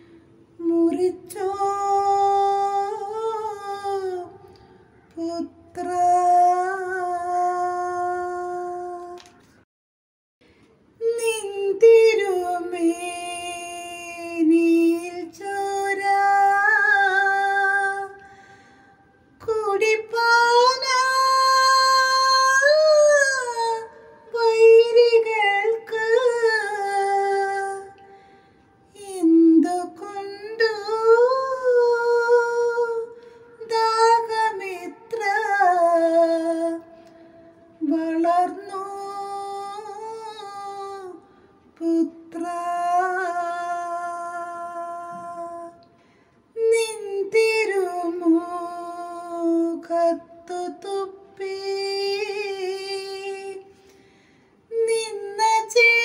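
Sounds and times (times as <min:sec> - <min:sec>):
woman chanting unaccompanied: 0:00.6 - 0:04.4, 0:05.1 - 0:09.2, 0:11.0 - 0:18.2, 0:19.4 - 0:28.0, 0:29.0 - 0:36.9, 0:37.8 - 0:45.8, 0:46.6 - 0:53.7.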